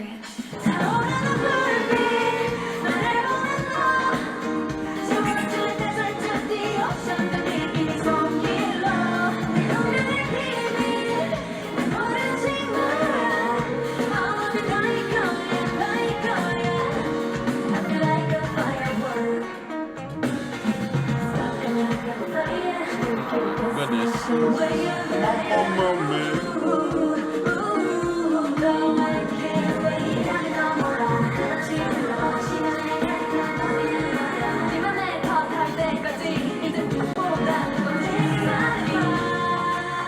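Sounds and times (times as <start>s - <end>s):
group singing pop song live: 0.0s - 40.0s
pop backing track: 0.0s - 40.0s.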